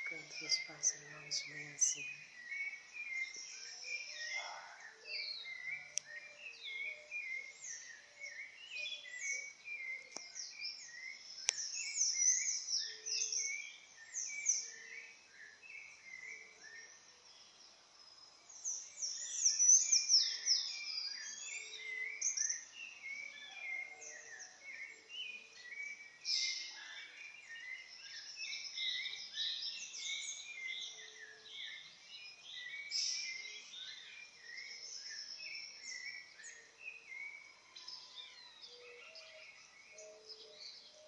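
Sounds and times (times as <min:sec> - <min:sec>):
songbirds chirping and whistling: 0:00.0 - 0:41.0.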